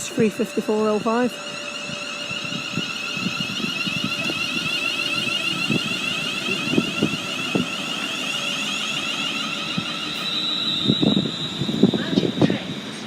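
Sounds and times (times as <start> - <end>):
electric train inverter whine: 0.0 - 13.0.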